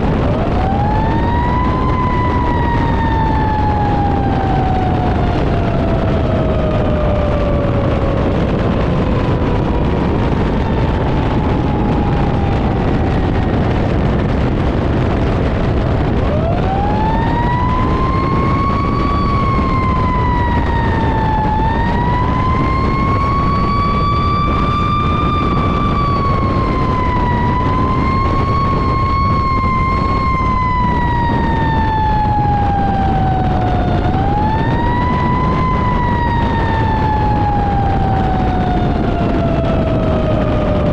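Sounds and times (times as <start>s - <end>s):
fire engine siren wailing: 0.0s - 40.9s
truck engine and road rumble: 0.0s - 40.9s.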